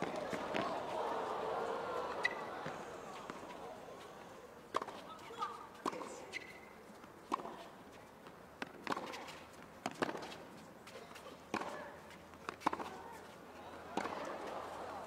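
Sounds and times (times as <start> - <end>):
tennis ball hits and bounces: 0.0 - 6.7, 7.3 - 14.9.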